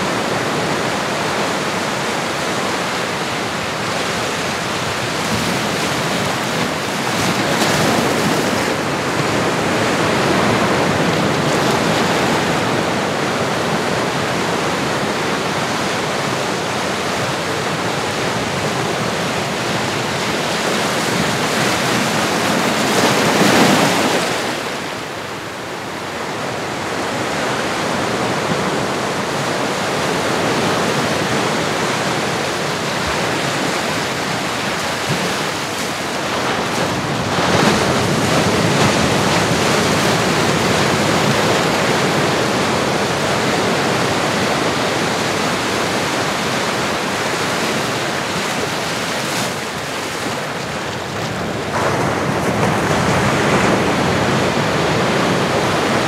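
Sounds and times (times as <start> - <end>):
ocean waves washing in: 0.0 - 56.0.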